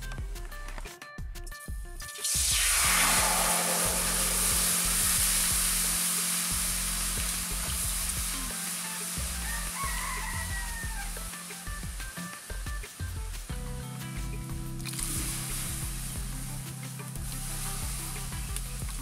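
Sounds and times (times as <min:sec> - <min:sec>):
hot oil sizzling: 0:02.0 - 0:19.0.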